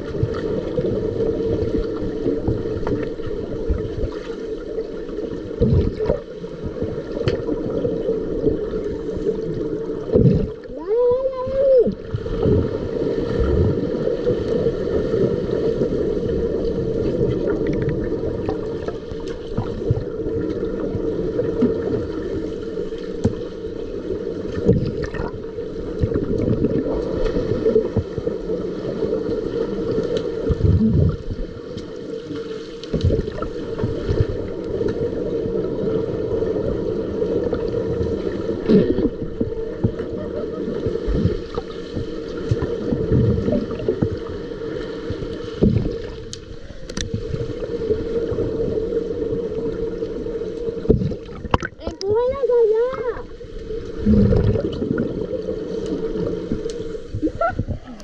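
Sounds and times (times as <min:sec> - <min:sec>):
bubbling swirling water: 0:00.0 - 0:58.0
underwater drone: 0:00.0 - 0:58.0.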